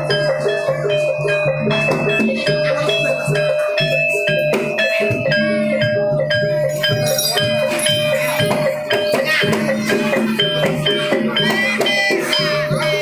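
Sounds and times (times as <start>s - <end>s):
gamelan music: 0.0s - 13.0s
held high tone: 0.0s - 13.0s.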